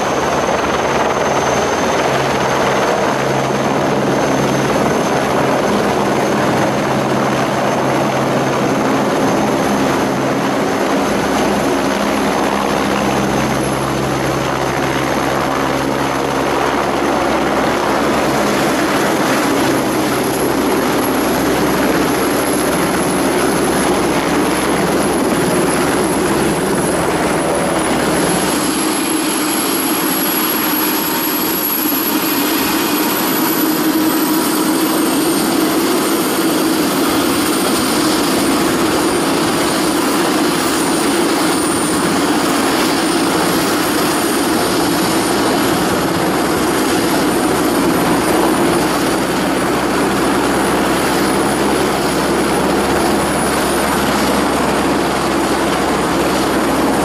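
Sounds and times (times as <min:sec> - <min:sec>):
helicopter rotor and engine: 0:00.0 - 0:57.0
high turbine whine: 0:00.0 - 0:57.0.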